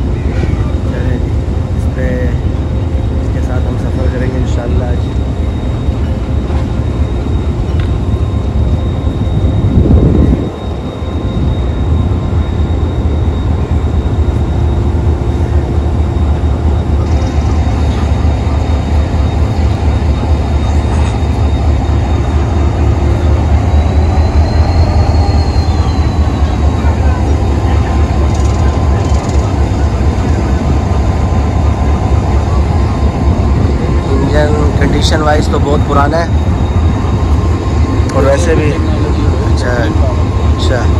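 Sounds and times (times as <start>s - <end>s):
faint high whine: 0.0s - 40.9s
locomotive engine rumble: 0.0s - 40.9s.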